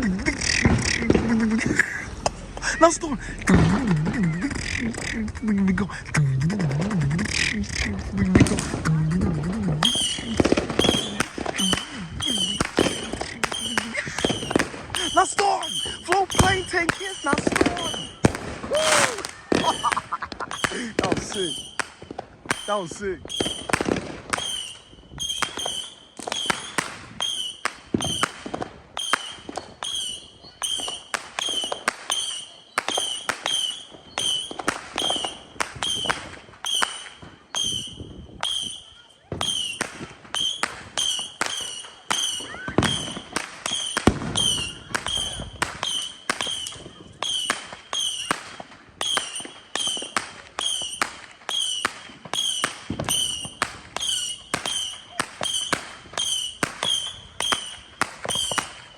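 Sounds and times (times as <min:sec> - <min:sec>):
fireworks bangs: 0:00.0 - 0:58.9.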